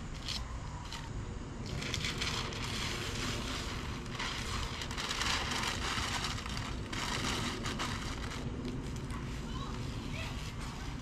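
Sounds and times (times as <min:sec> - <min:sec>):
low steady rumble: 0:00.0 - 0:11.0
paper and tape peeling and crumpling: 0:01.7 - 0:11.0.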